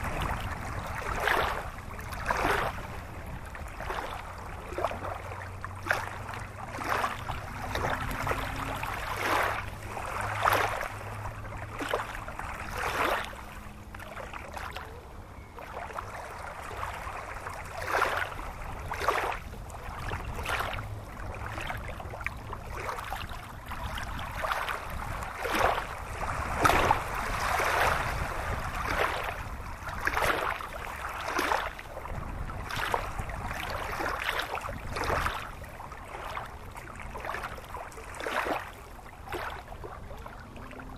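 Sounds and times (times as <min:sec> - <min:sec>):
water splashing surges: 0:00.0 - 0:40.9.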